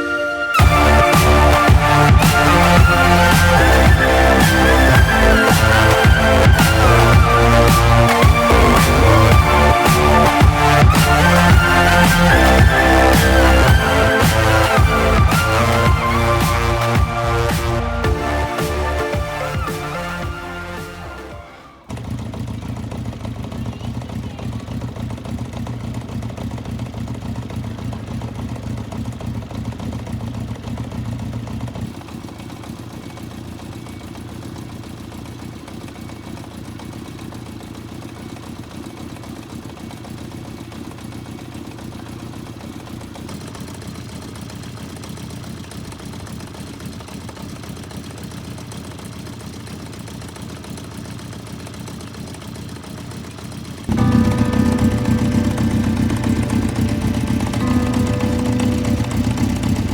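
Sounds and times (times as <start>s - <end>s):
motorcycle engine idling: 0.6s - 19.6s, 21.8s - 59.9s.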